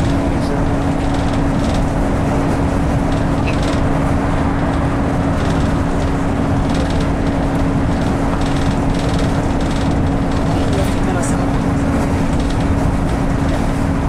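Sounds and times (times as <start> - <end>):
bus engine and tyre drone: 0.0 - 14.0.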